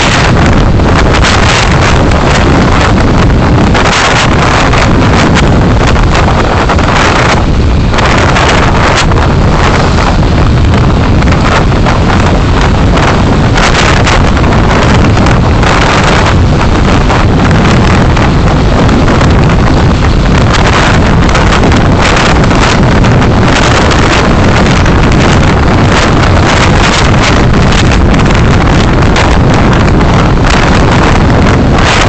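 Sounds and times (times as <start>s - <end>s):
vehicle road noise: 0.0s - 32.0s
wind buffeting microphone: 0.0s - 32.0s.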